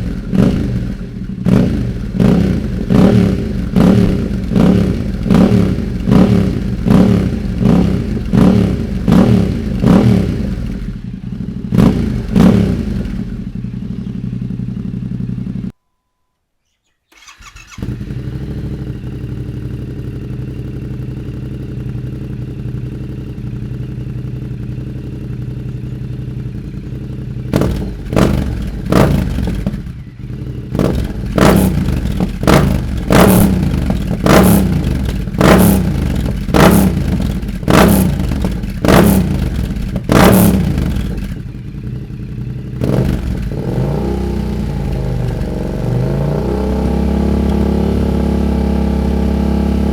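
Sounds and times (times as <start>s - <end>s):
motorcycle engine revving: 0.0s - 15.7s, 17.2s - 49.9s
motorcycle engine idling: 0.0s - 15.8s, 17.2s - 49.9s.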